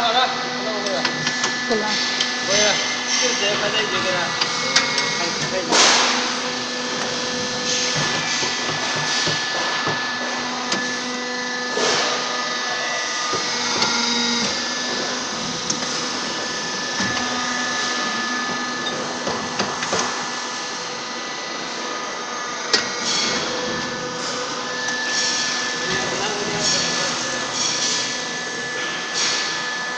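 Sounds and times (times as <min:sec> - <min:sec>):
machine motor hum and hiss: 0:00.0 - 0:29.9.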